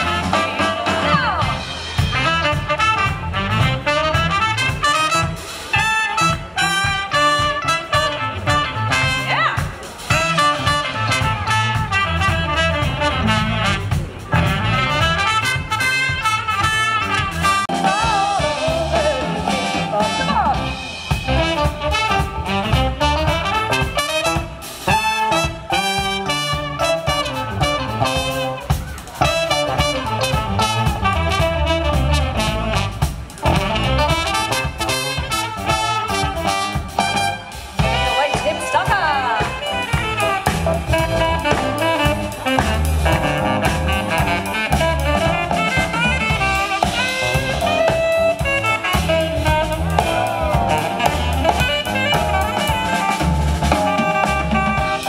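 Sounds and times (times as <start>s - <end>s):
live jazz-swing band: 0.0s - 55.0s.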